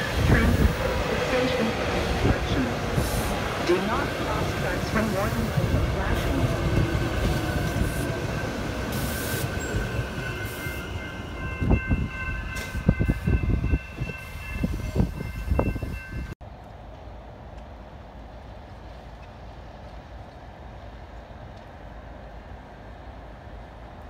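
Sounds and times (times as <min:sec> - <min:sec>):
electric train rumbling past: 0:00.0 - 0:24.0.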